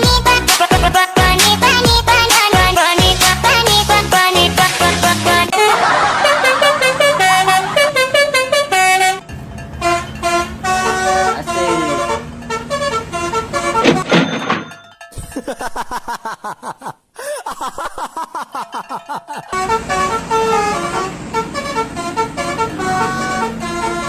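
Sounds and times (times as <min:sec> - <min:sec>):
musical bus horn tune: 0:00.0 - 0:14.6, 0:19.4 - 0:24.0.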